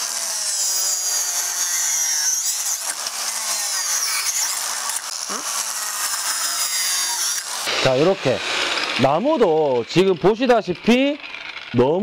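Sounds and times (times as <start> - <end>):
angle grinder cutting wood: 0.0 - 12.0.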